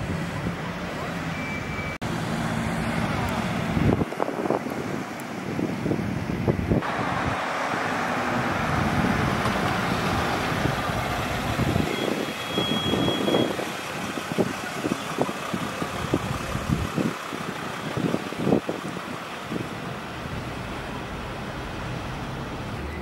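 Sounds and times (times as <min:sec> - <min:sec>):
van engine and tyres: 0:00.0 - 0:23.0.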